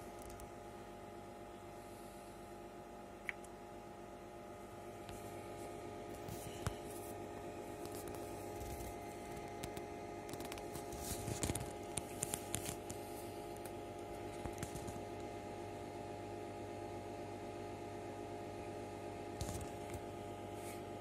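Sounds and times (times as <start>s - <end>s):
computer hum and fan noise: 0.0s - 21.0s.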